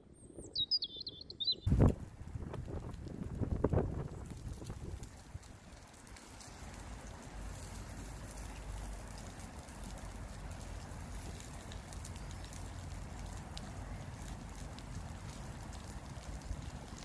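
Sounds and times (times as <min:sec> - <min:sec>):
wind rumbling on microphone: 0:01.2 - 0:17.0
food sizzling on barbecue plate: 0:01.7 - 0:17.0.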